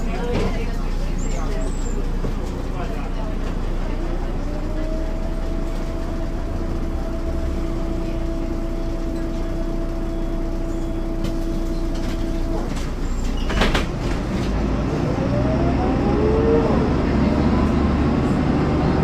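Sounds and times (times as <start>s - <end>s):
diesel bus engine rumbling: 0.0s - 19.0s
engine whine: 3.4s - 19.0s.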